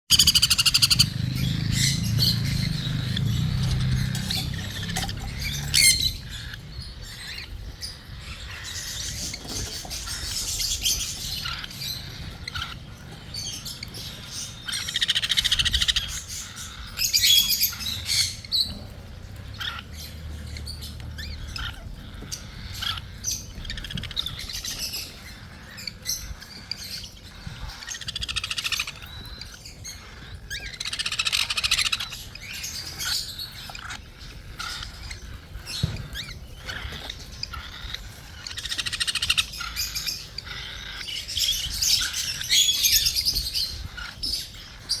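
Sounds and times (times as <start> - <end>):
bird raspy begging calls: 0.1 - 45.0.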